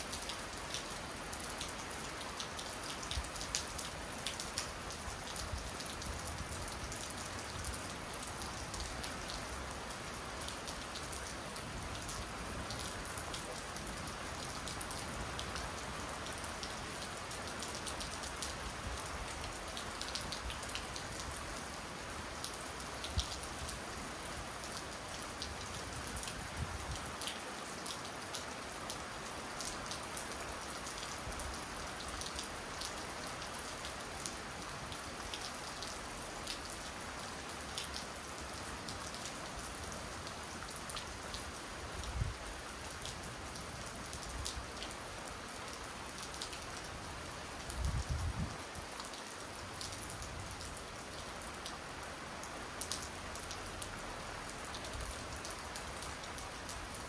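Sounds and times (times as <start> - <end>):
raindrops ticking nearby: 0.0 - 57.0
steady rain falling: 0.0 - 57.0.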